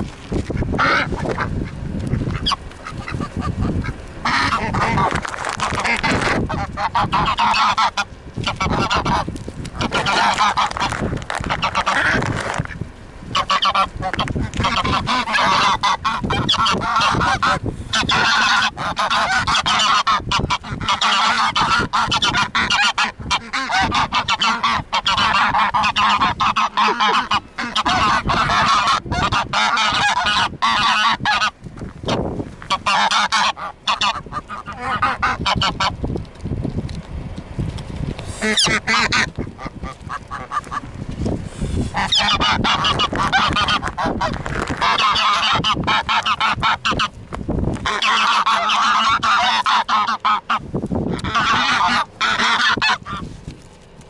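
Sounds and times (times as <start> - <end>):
geese honking: 0.4 - 36.1, 38.3 - 53.3.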